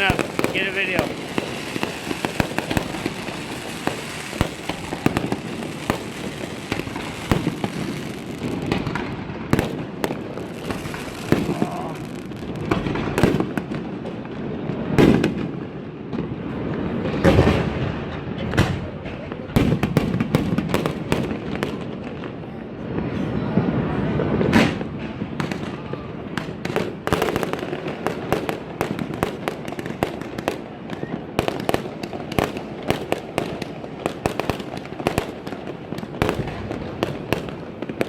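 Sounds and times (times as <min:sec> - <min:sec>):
fireworks bangs and crackling pops: 0:00.0 - 0:38.0
heavy fireworks booms: 0:00.0 - 0:38.0.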